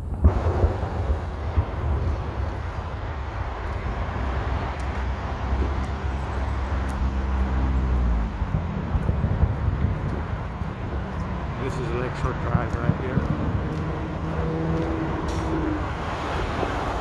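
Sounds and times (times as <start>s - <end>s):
road traffic: 0.0s - 17.0s
vehicle engine hum: 0.9s - 17.0s.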